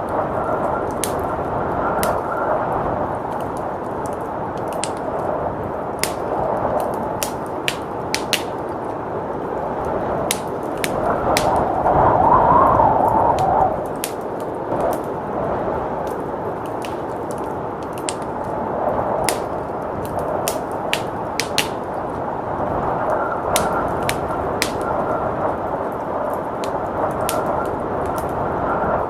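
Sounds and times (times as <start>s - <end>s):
blizzard wind: 0.0s - 29.0s
wood fire crackling and popping: 0.0s - 29.0s.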